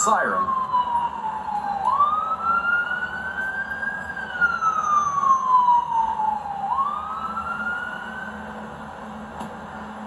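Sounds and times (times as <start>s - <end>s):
emergency vehicle siren wailing: 0.0s - 9.2s.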